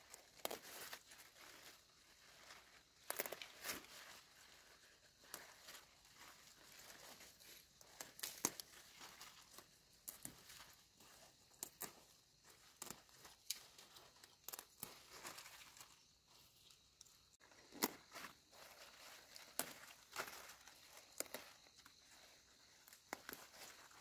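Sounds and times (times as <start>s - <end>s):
rustling and crinkling: 0.0s - 24.0s.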